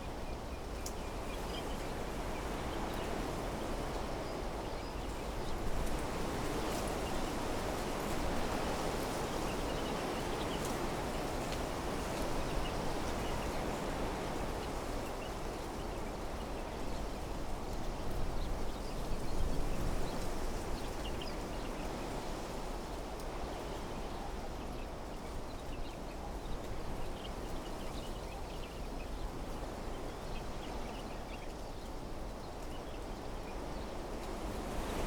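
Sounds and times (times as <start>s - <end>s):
wind rustling through trees: 0.0s - 35.0s.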